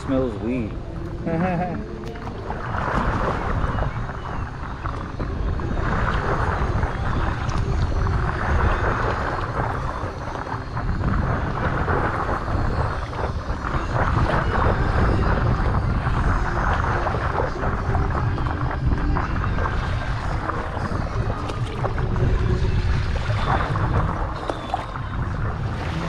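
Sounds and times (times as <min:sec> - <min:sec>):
wind buffeting microphone: 0:00.0 - 0:26.0
water lapping against board: 0:00.3 - 0:26.0.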